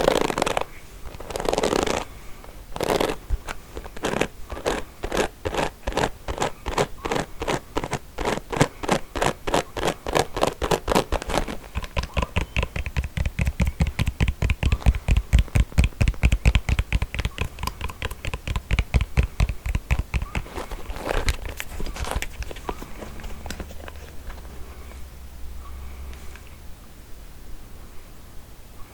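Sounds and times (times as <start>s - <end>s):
comb scratching strokes: 0.0s - 26.5s.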